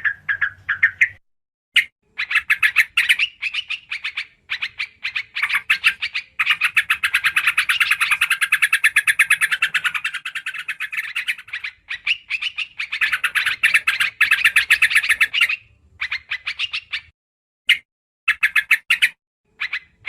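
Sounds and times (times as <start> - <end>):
bird chattering: 0.0 - 1.2, 1.8 - 17.1, 17.7 - 20.0.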